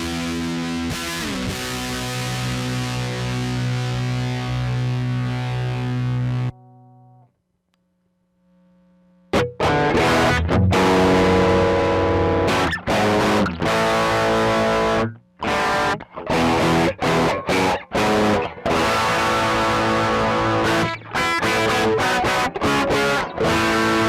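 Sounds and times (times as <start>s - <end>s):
distorted electric guitar chords: 0.0s - 7.2s, 9.3s - 24.0s.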